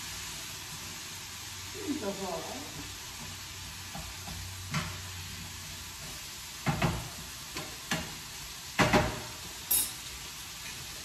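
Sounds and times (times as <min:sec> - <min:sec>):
food sizzling in pan: 0:00.0 - 0:11.0.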